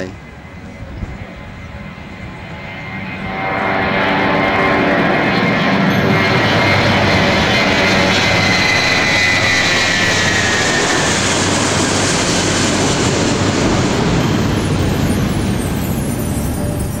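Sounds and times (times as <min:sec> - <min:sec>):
high jet whine: 0:00.0 - 0:17.0
jet engine roar: 0:00.0 - 0:17.0.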